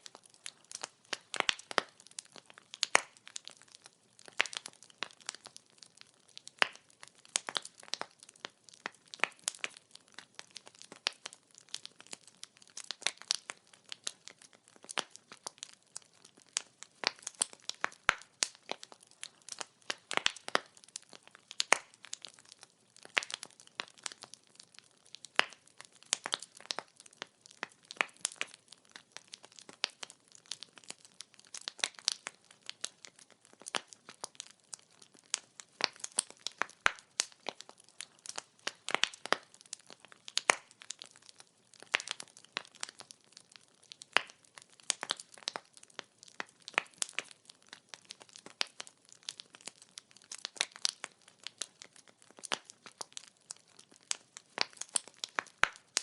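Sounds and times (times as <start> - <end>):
firewood crackling: 0.0 - 56.0.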